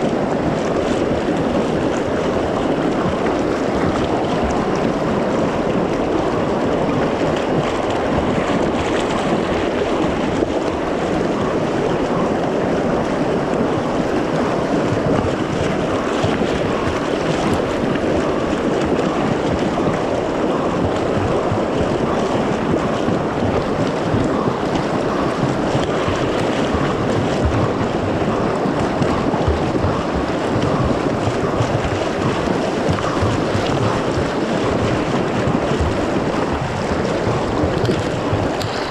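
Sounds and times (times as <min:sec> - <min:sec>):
whitewater rushing and splashing: 0:00.0 - 0:38.9.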